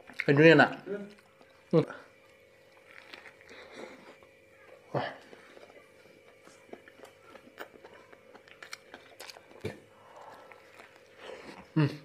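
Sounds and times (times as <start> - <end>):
person chewing a burger: 1.1 - 4.4, 5.0 - 12.0.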